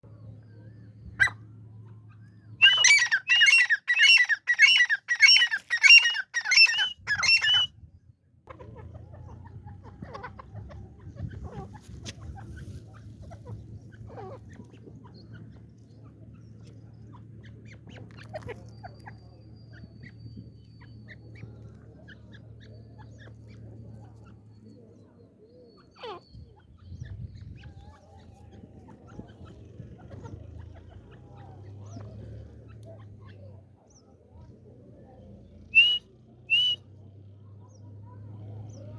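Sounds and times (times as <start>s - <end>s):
francolin chirps and clucks: 0.1s - 38.9s.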